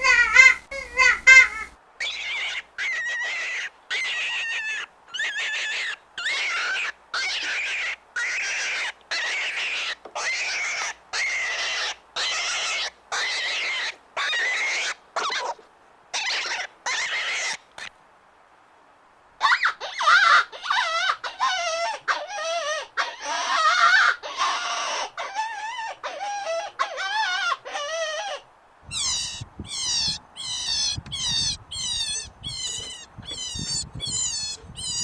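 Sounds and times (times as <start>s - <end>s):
rabbit squealing: 0.0s - 17.9s, 19.4s - 35.0s.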